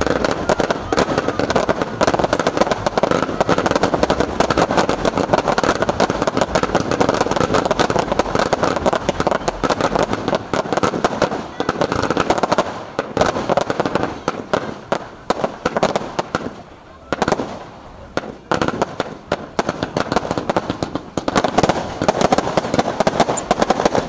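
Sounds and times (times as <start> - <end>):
fireworks cracking and popping: 0.0 - 24.0.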